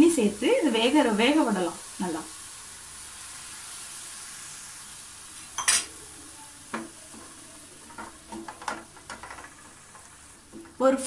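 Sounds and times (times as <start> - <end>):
vegetables sizzling in a metal pan: 0.0 - 11.0.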